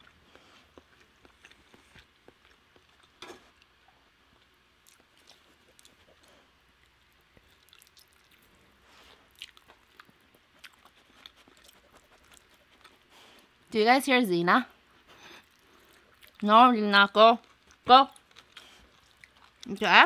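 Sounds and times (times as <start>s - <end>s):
chewing and mouth smacks: 0.0s - 13.6s, 15.0s - 16.4s, 17.4s - 19.8s.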